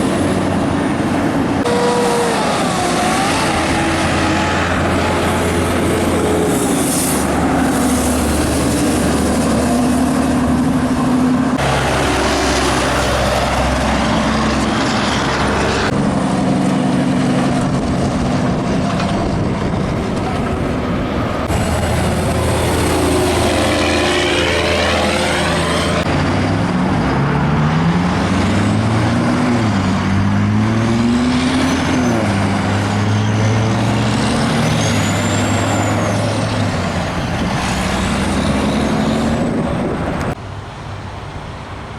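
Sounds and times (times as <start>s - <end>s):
diesel trucks passing: 0.0s - 41.9s
tyre and road noise: 0.0s - 41.9s.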